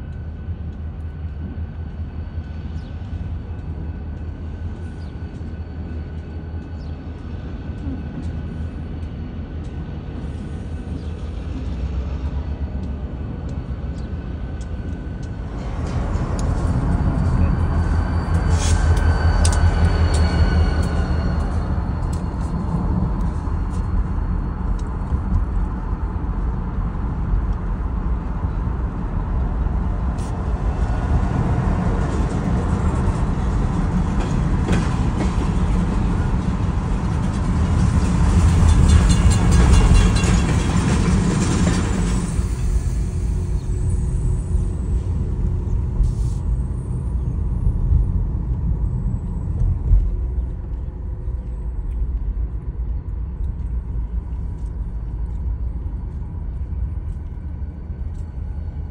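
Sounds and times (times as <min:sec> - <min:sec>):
clatter of train wheels on rail: 0:00.0 - 0:58.9
train low rumble: 0:00.0 - 0:58.9.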